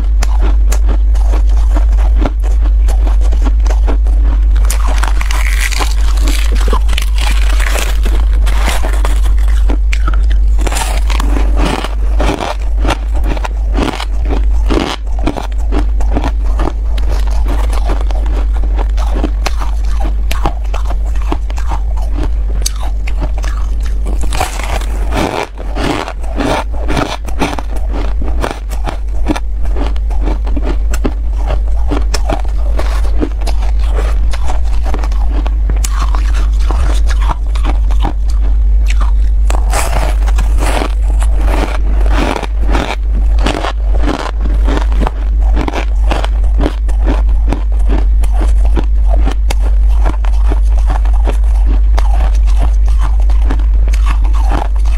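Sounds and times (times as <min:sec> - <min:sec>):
frost being chewed: 0:00.0 - 0:54.9
steady low hum: 0:00.0 - 0:54.9.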